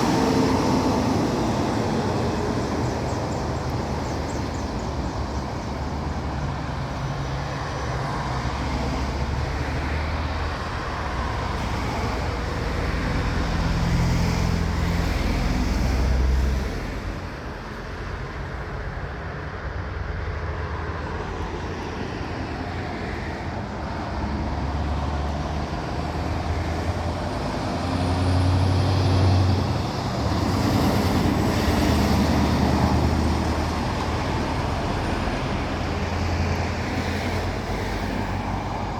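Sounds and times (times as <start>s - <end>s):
heavy truck diesel engines: 0.0s - 38.9s.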